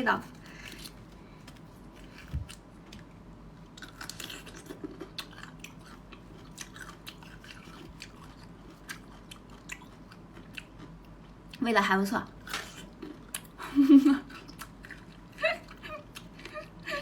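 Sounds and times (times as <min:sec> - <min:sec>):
person chewing crunchy food: 0:00.4 - 0:11.6, 0:12.4 - 0:13.6, 0:14.2 - 0:16.8.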